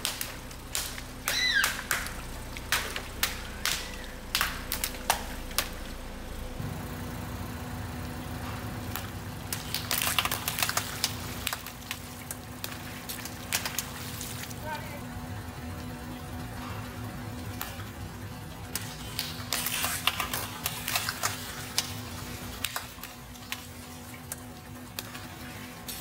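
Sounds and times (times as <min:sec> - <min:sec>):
water balloons bursting: 0:00.0 - 0:06.2, 0:08.4 - 0:14.6, 0:17.5 - 0:26.0
car engine running: 0:00.0 - 0:25.8.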